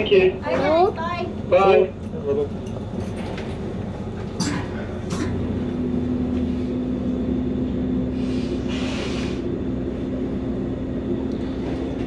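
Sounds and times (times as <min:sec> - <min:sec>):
diesel railcar rumble and hum: 0:00.0 - 0:12.0.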